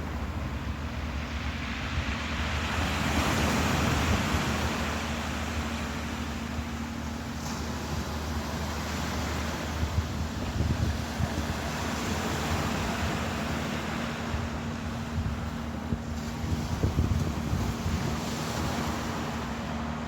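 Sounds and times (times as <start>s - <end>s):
ocean waves washing: 0.0s - 20.0s
steady low hum: 0.0s - 20.0s.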